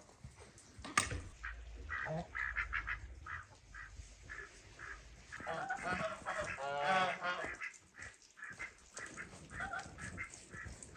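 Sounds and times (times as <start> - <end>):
poultry clucking: 1.4 - 10.9.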